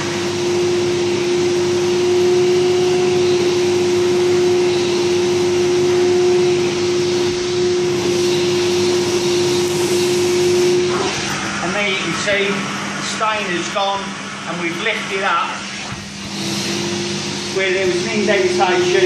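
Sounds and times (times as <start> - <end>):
carpet extractor vacuum suction: 0.0 - 19.0.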